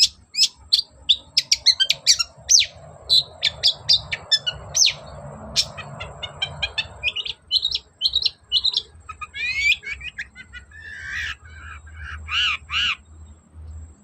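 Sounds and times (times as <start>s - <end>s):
rising sweeping bird call: 0.0s - 13.1s
bird singing sharp chirps: 0.0s - 13.4s.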